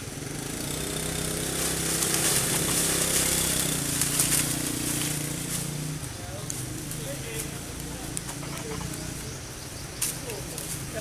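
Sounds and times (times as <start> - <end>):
small engine humming: 0.0 - 11.0.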